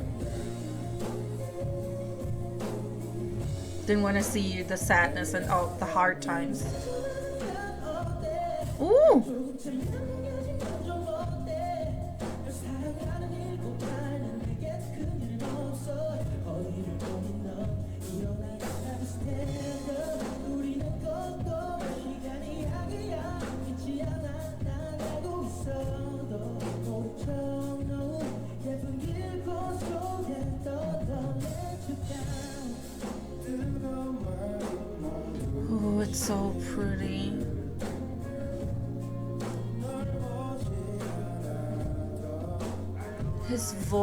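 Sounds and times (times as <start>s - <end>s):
backing track with bass and drums: 0.0s - 44.0s
man singing pop song: 0.0s - 44.0s.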